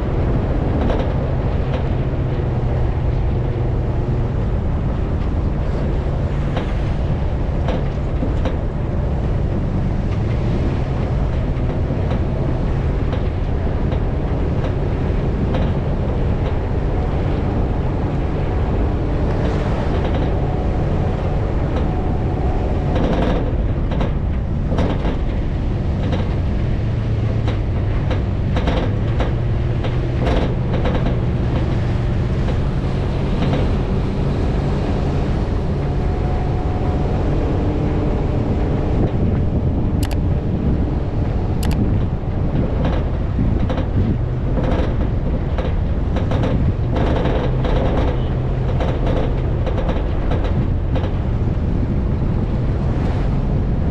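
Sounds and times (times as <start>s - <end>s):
sharp knocks and rattles: 0.0s - 53.6s
off-road vehicle engine running: 0.0s - 53.9s
wind noise: 0.0s - 53.9s.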